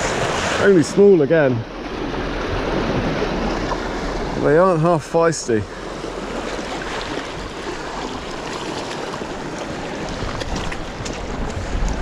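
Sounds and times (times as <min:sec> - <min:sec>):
sea waves washing over rocks: 0:00.0 - 0:12.0.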